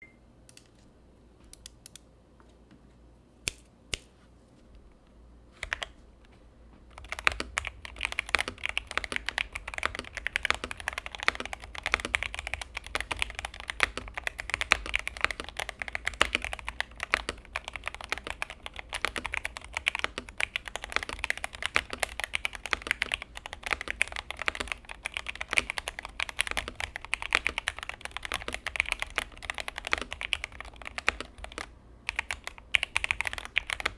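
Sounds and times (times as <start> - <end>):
typing on mechanical keyboard: 5.6 - 6.0, 6.9 - 33.9.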